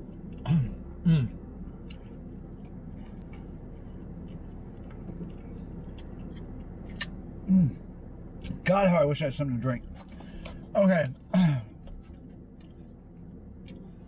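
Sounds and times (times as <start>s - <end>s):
car cabin hum: 0.0s - 14.0s.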